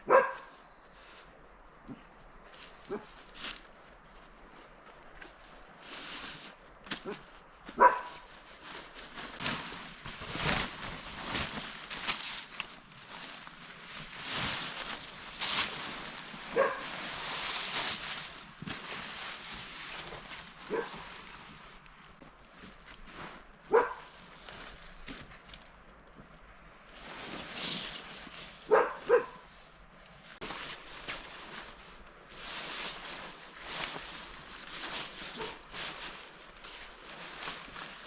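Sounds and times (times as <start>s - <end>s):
rustling and crunching: 0.0s - 38.0s.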